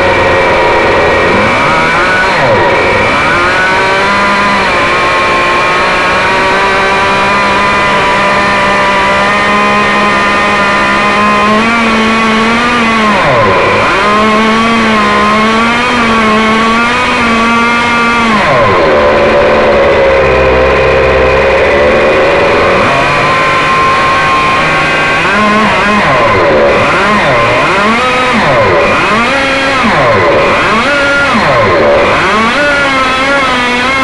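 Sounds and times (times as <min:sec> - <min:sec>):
model engine whining: 0:00.0 - 0:34.0.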